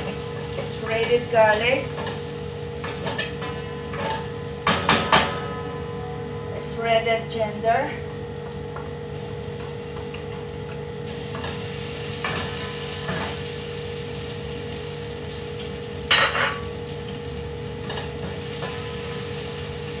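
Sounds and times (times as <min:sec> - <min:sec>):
garlic frying in oil: 0:00.0 - 0:05.3, 0:06.8 - 0:20.0
steady hum: 0:00.0 - 0:20.0.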